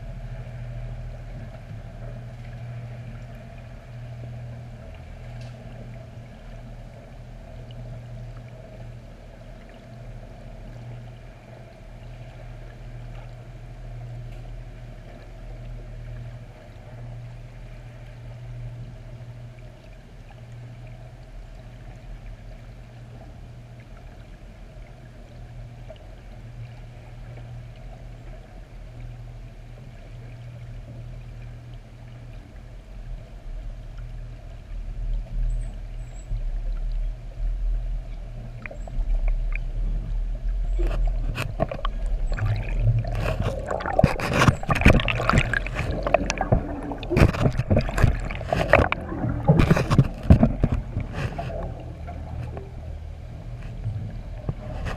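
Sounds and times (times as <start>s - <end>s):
moving water wash: 0.0s - 54.9s
muffled underwater hum: 0.0s - 54.9s.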